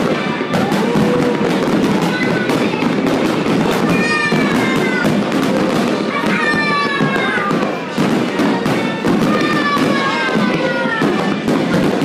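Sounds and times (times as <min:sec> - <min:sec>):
firework shell bursts and crackling: 0:00.0 - 0:12.0
thin whistling fireworks: 0:00.0 - 0:12.0.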